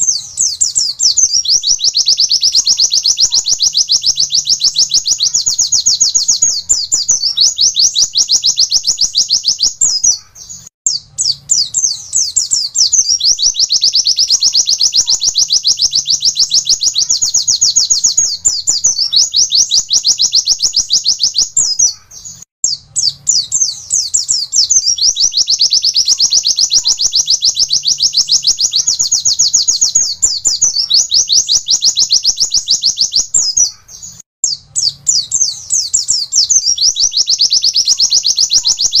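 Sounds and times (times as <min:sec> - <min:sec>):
bird singing rapid high notes: 0:00.0 - 0:39.0.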